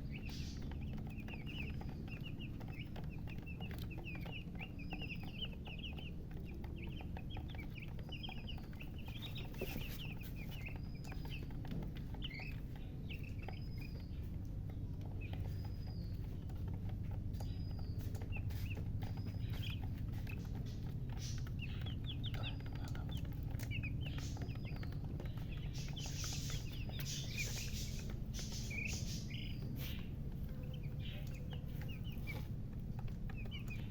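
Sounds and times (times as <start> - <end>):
chicks peeping: 0.0 - 33.9
steady low hum: 0.0 - 33.9.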